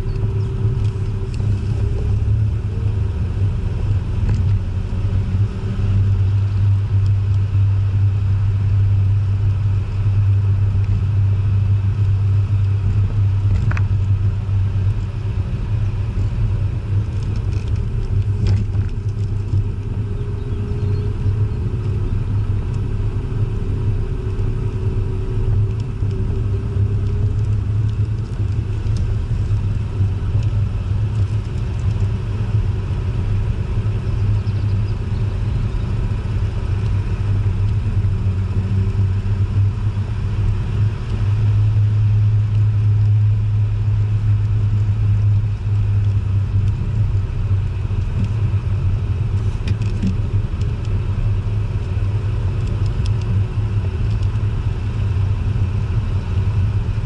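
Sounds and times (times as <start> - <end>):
car engine droning: 0.0 - 57.0
tyre and wind noise: 0.0 - 57.0.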